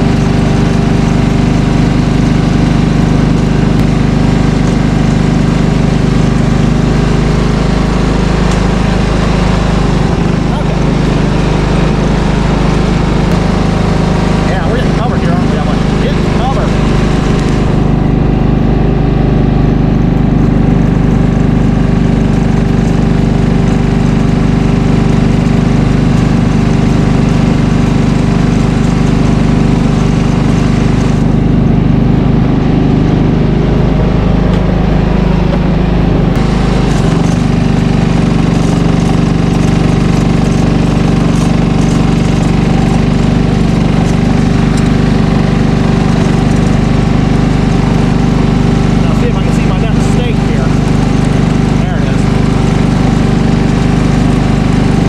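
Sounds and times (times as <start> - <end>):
snowblower engine running: 0.0 - 55.0.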